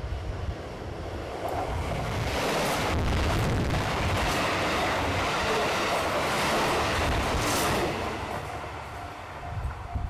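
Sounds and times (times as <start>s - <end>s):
train passing on rails: 0.0s - 10.0s.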